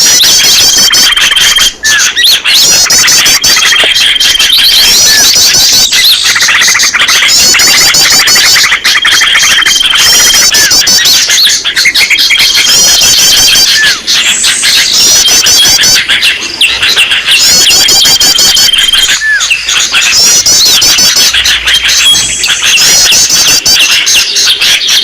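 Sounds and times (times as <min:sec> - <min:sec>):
small birds chirping and trilling: 0:00.0 - 0:25.0.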